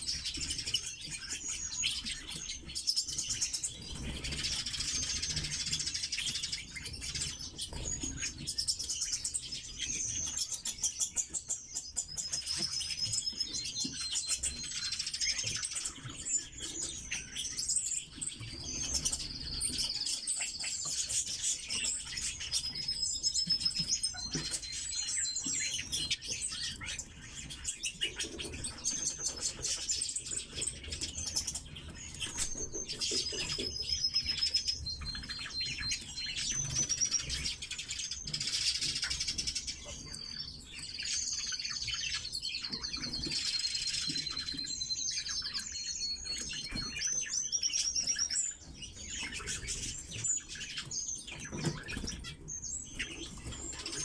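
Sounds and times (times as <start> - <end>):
bird chirps and trills: 0.0 - 54.0.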